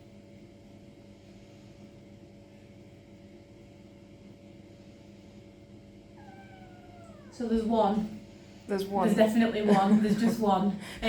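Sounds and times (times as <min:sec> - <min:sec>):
machine hum in a room: 0:00.0 - 0:11.0.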